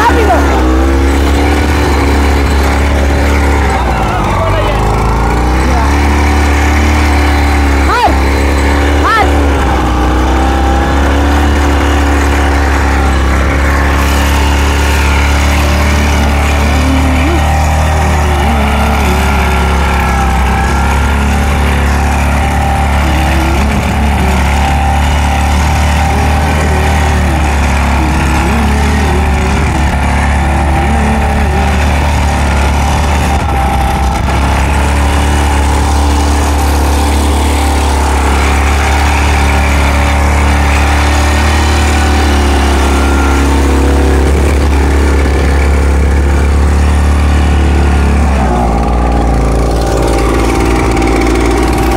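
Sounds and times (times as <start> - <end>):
tractor engine running under load: 0.0 - 51.9.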